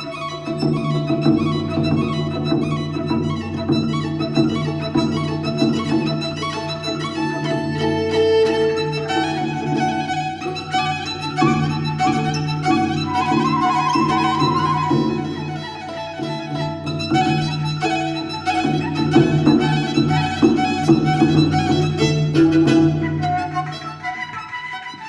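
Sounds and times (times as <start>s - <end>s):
viola playing a melody: 0.0s - 25.0s
plucked-string notes: 0.6s - 23.9s.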